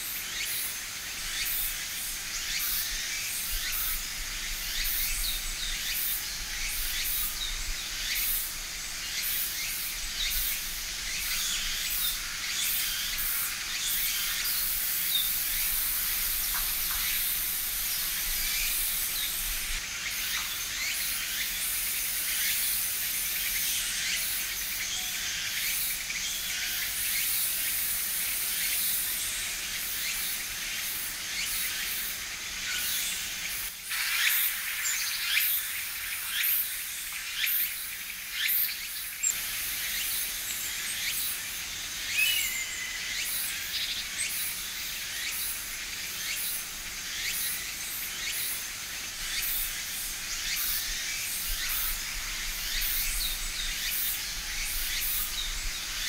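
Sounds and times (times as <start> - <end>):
high-pitched insect buzz: 0.0 - 56.0.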